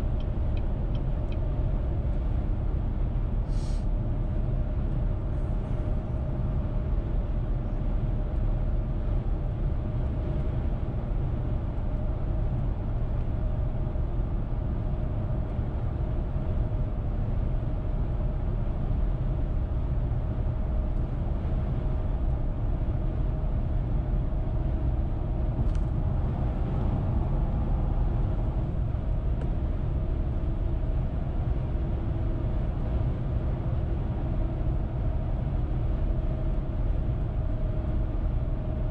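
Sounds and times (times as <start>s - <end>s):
car road noise at highway speed: 0.0s - 38.9s.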